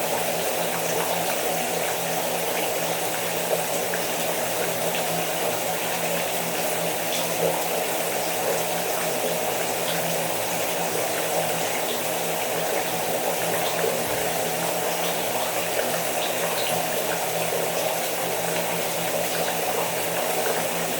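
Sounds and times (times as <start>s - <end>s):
rain falling steadily: 0.0s - 20.9s.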